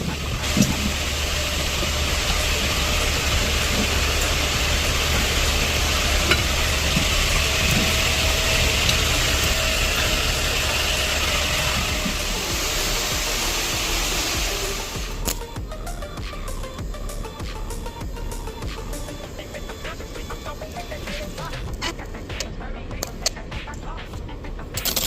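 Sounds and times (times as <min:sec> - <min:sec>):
welding arc hissing: 0:00.0 - 0:23.2
low electrical hum: 0:00.0 - 0:25.0.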